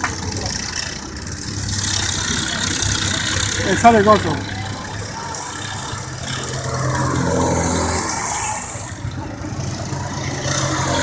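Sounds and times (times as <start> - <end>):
go-kart engines passing: 0.0 - 11.0.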